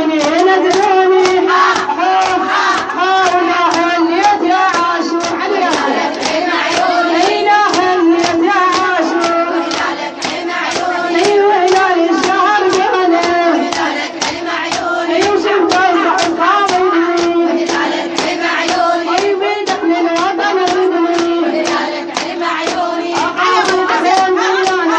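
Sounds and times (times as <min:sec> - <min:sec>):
rhythmic hand strikes: 0:00.0 - 0:24.9
women chanting in chorus: 0:00.0 - 0:24.9.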